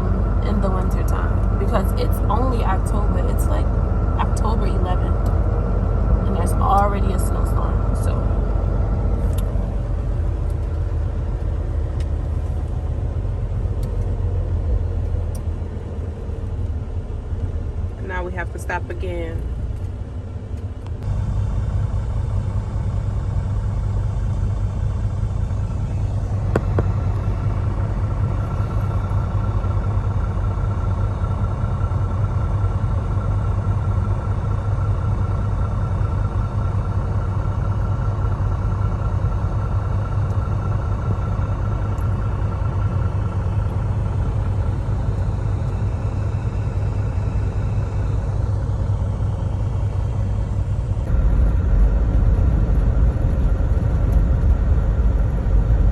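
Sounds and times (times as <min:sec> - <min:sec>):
diesel engine rumble in cab: 0:00.0 - 0:55.9
faint steady whine: 0:00.0 - 0:55.9.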